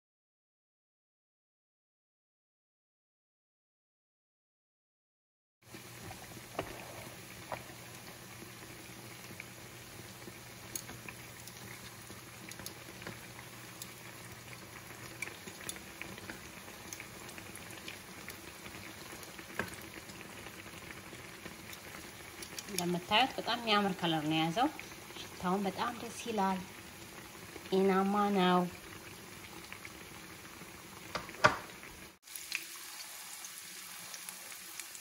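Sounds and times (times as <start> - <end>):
dough deep-frying in hot oil: 5.6 - 35.0.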